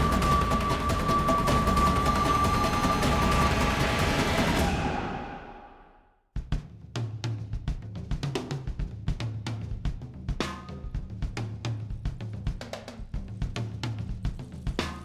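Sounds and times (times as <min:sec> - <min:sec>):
drum kit beat: 0:00.0 - 0:05.5, 0:06.4 - 0:15.0.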